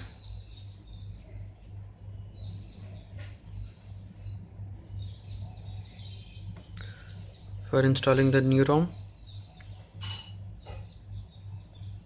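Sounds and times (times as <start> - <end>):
faint bird chirps: 0.0 - 12.0
steady low hum: 0.0 - 12.0.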